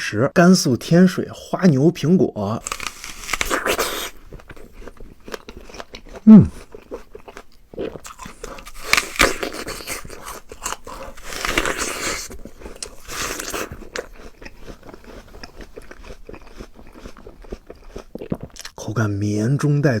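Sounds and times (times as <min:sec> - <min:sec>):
biting into an apple: 0:02.6 - 0:18.8
crunchy chewing: 0:02.6 - 0:18.8.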